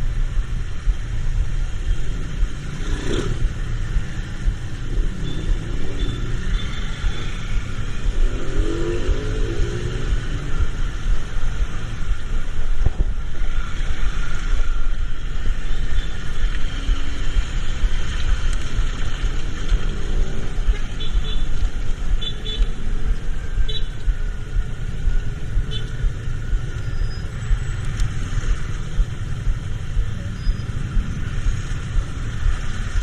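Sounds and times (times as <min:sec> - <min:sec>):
road traffic noise: 0:00.0 - 0:33.0
wind rumble on microphone: 0:00.0 - 0:33.0.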